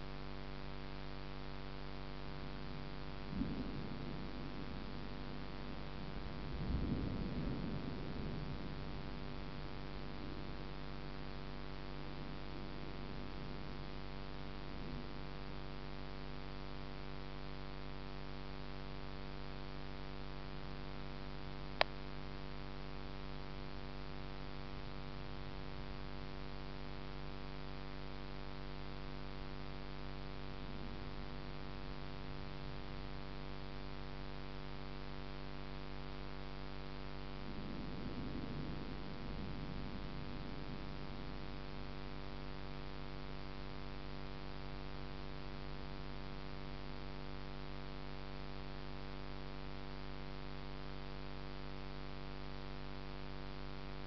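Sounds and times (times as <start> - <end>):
faint hiss: 0.0 - 54.0
faint low rumble: 0.0 - 54.0
steady electrical hum: 0.0 - 54.0.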